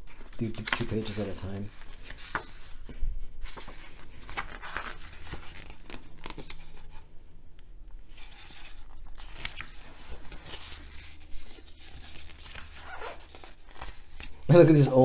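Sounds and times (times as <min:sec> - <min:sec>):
book pages turning: 0:00.0 - 0:07.1, 0:07.9 - 0:14.7.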